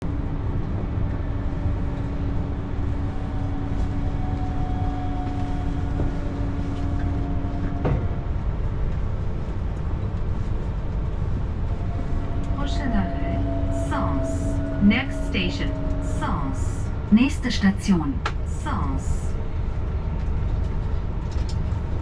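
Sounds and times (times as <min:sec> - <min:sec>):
train equipment hum: 0:00.0 - 0:22.0
train rumbling on rails: 0:00.0 - 0:22.0.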